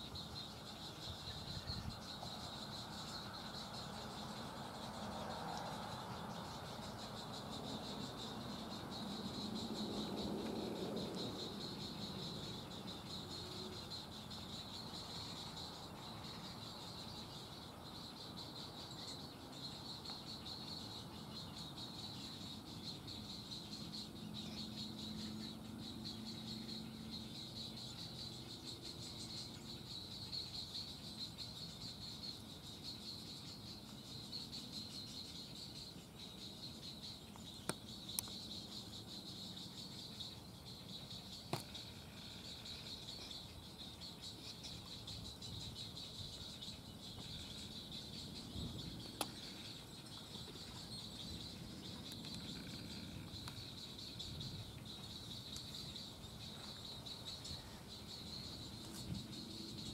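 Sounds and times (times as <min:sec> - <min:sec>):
high-pitched insect trill: 0:00.0 - 0:59.9.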